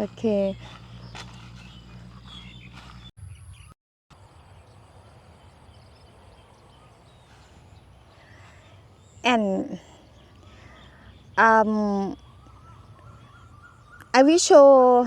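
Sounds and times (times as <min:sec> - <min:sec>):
distant bird calls: 0:00.0 - 0:14.8.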